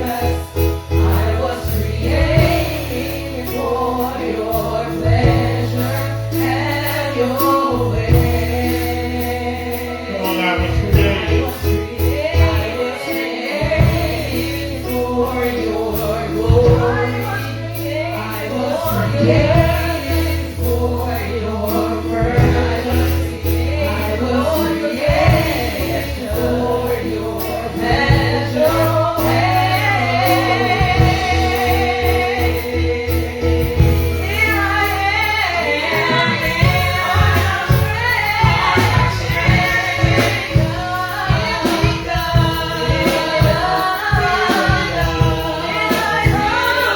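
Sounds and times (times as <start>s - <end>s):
bass line and band: 0.0s - 46.9s
choir singing gospel music: 0.0s - 46.9s.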